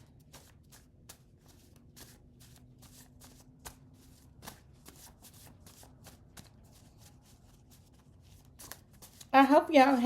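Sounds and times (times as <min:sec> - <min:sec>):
cards being shuffled by hand: 0:00.0 - 0:10.0.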